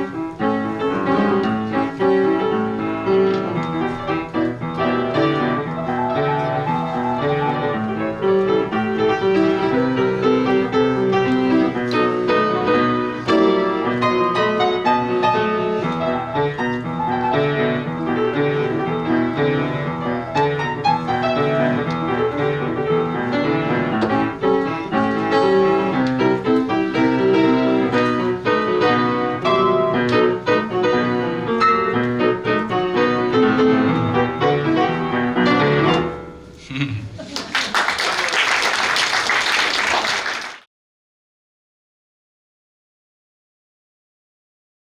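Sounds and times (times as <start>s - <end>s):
solo piano playing: 0.0s - 36.5s.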